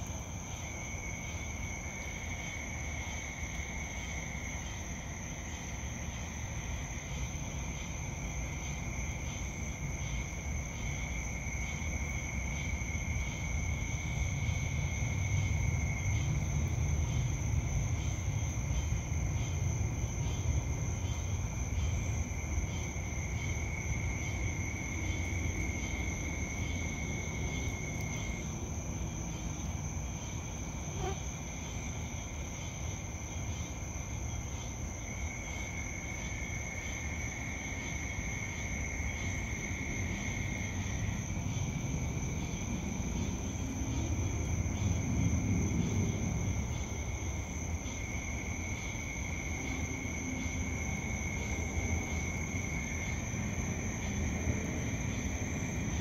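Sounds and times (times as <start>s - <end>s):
high steady insect trill: 0.0s - 56.0s
low background noise: 0.0s - 56.0s
lower insect trill: 0.0s - 56.0s.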